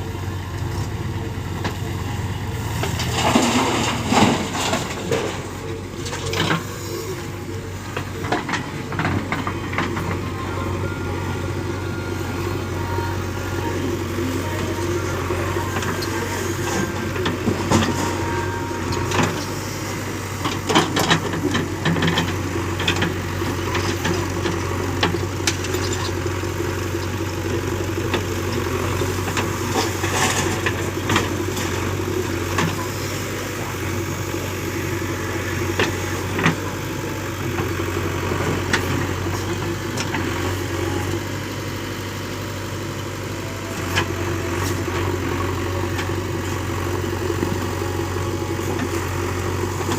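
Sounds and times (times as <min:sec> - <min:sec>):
heavy diesel engine droning: 0:00.0 - 0:49.9.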